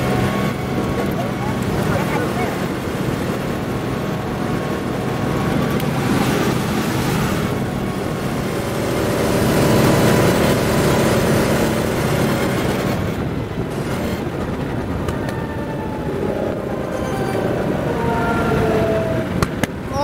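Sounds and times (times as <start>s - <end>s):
go-kart engine running: 0.0s - 20.0s
wind rush on microphone: 0.0s - 20.0s.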